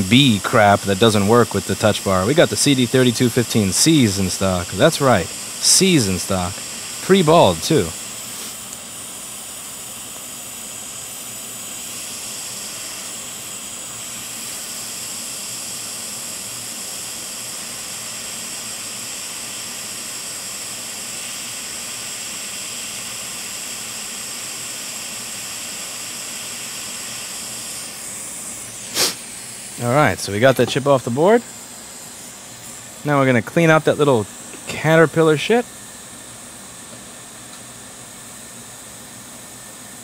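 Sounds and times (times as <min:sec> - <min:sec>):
hot air blower hissing: 0:00.0 - 0:40.0.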